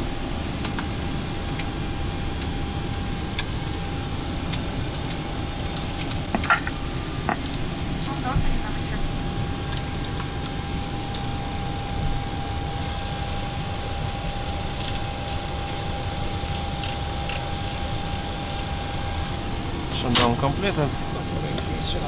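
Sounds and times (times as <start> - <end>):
ventilation and equipment hum: 0.0 - 22.0.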